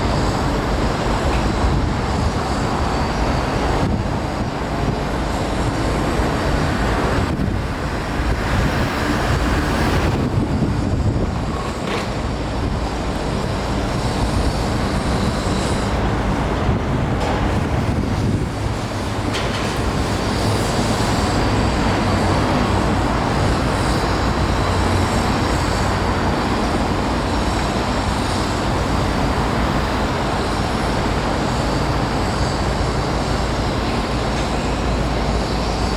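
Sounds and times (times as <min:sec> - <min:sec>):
city traffic rumble: 0:00.0 - 0:35.9
rail noise: 0:00.0 - 0:35.9.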